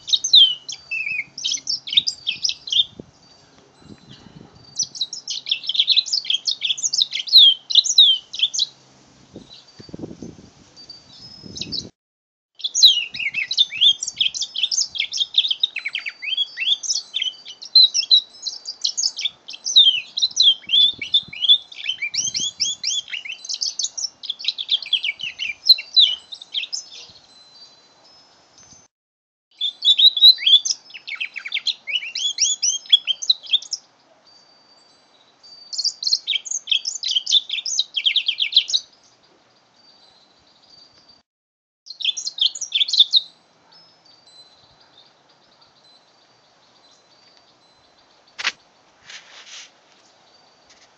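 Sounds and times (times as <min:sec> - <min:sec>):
canary singing twittering trills: 0:00.0 - 0:08.8, 0:10.8 - 0:11.9, 0:12.6 - 0:28.9, 0:29.5 - 0:41.2, 0:41.9 - 0:48.9.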